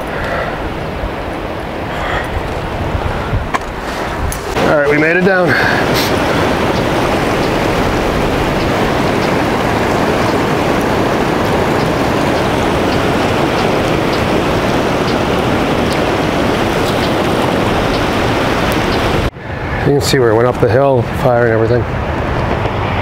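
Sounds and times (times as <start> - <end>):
river rushing over riffles: 0.0 - 23.0.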